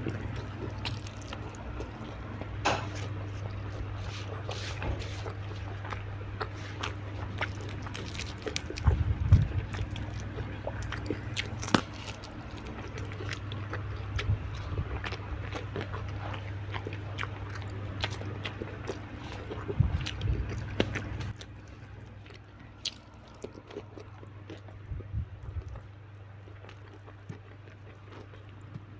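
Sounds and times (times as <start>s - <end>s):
crunchy eating and chewing: 0.0s - 28.9s
steady low hum: 0.0s - 28.9s.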